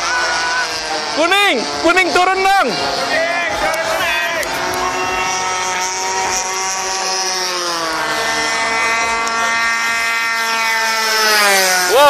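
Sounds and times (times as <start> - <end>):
model plane engine at high throttle: 0.0 - 12.0.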